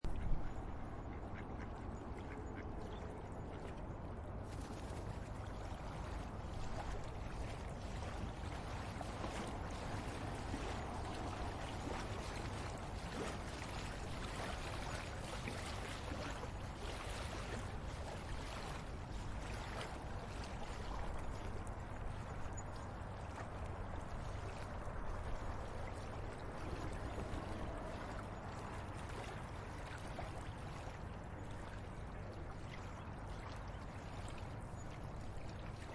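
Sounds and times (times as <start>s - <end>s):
river water gurgling: 0.1s - 35.9s.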